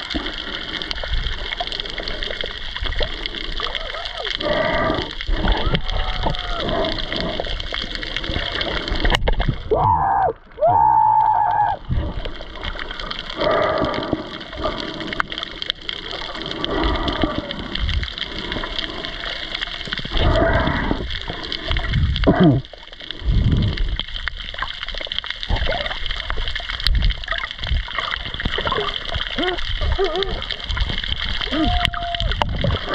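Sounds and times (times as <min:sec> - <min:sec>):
water gurgling and sloshing: 0:00.0 - 0:32.9.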